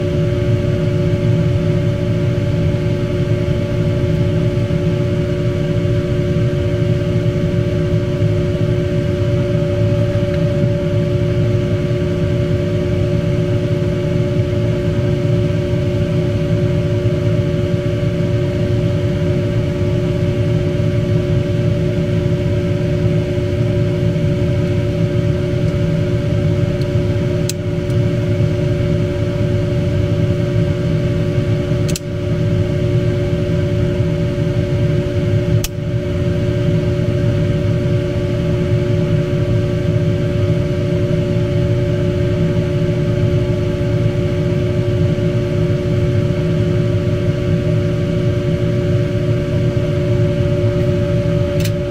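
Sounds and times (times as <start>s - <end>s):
machine hum with two tones: 0.0s - 51.9s.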